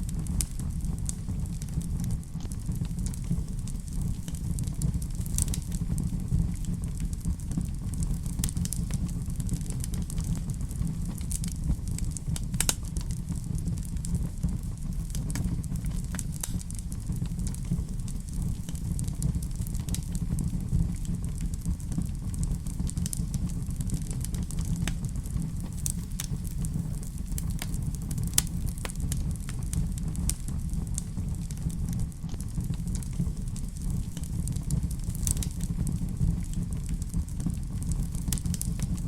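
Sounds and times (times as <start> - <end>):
fire crackling and popping: 0.0 - 39.0
low rumble of flames: 0.0 - 39.0.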